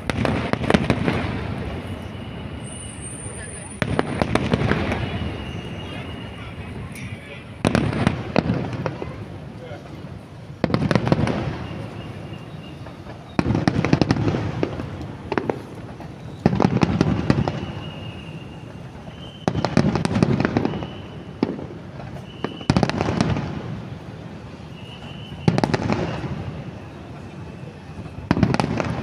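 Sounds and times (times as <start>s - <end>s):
fireworks blasts and crackling: 0.0s - 29.0s.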